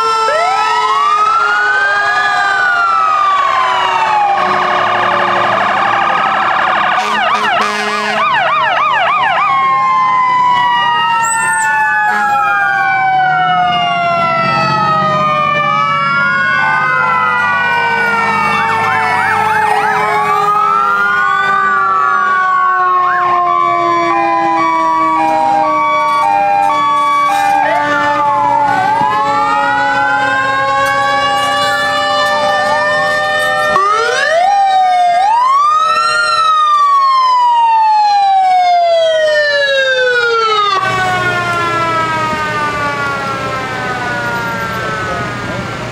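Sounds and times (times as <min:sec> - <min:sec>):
two-tone hi-lo siren: 0:00.0 - 0:45.7
emergency vehicle sirens wailing: 0:00.0 - 0:45.9
siren yelp: 0:00.0 - 0:45.9.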